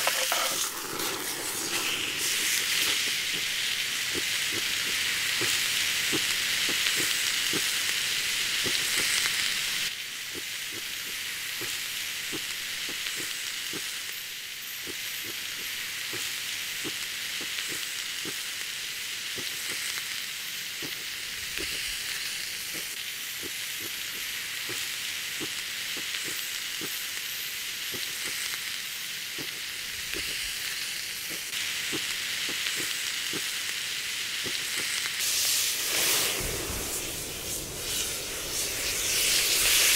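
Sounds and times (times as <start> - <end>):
steak sizzling on grill pan: 0.0 - 39.9.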